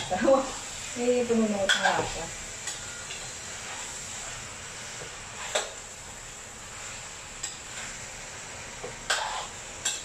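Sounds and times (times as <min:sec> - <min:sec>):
spatula scraping a wok: 0:00.0 - 0:08.1, 0:08.9 - 0:10.0
meat sizzling in a wok: 0:00.0 - 0:10.0.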